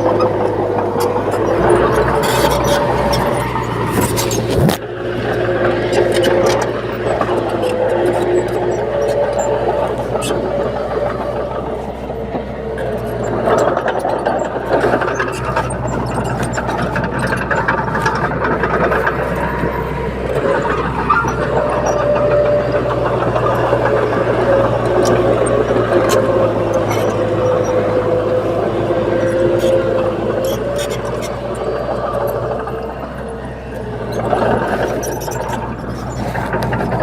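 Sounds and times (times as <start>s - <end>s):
bulldozer diesel drone: 0.0s - 37.0s
scattered clicks: 0.0s - 37.0s.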